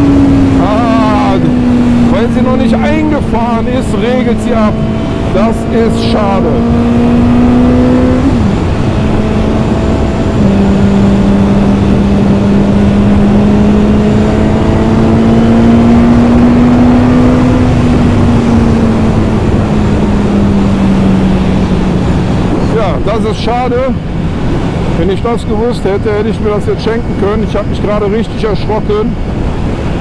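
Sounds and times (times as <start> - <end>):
motorcycle engine at high revs: 0.0 - 30.0
wind rush on microphone: 0.0 - 30.0.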